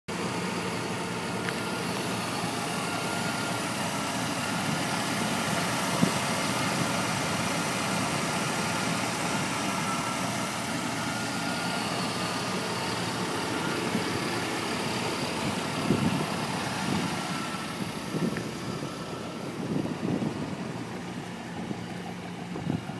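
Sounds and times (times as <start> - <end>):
truck engine idling: 0.1 - 22.9.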